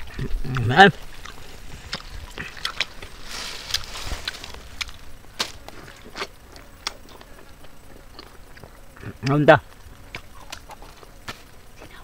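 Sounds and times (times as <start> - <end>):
honeycomb being chewed: 0.0 - 12.0.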